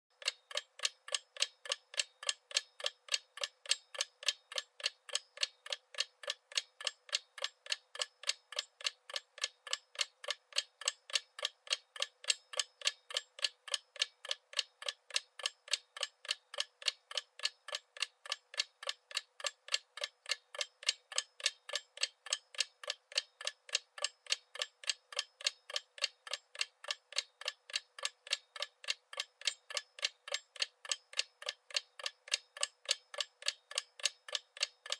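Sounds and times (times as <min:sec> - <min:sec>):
clock ticking: 0:00.1 - 0:34.9.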